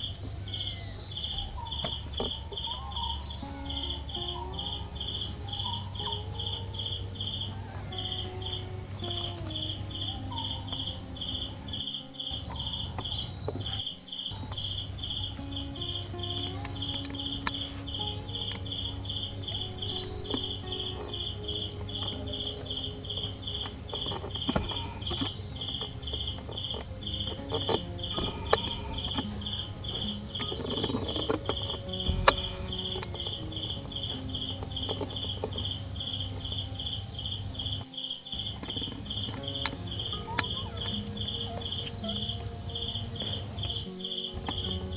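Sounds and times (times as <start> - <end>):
low hum: 0.0 - 37.8
high-pitched insect buzz: 0.0 - 44.9
insects chirping: 0.0 - 44.9.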